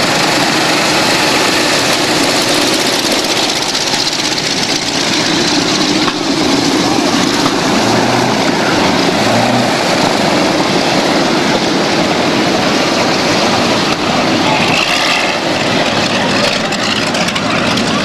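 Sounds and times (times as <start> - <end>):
propeller plane engines running: 0.0 - 18.0.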